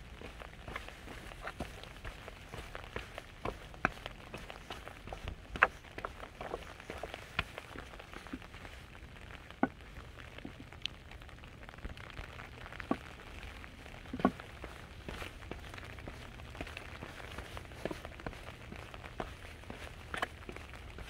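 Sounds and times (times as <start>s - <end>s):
heavy raindrops tapping: 0.0s - 21.0s
rain pattering: 0.0s - 21.0s.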